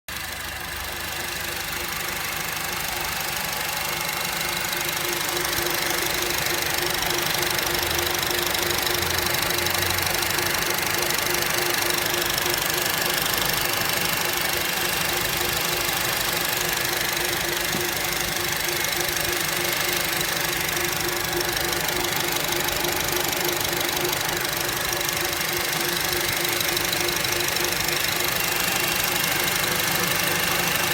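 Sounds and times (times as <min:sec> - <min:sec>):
car engine running: 0:00.1 - 0:30.9.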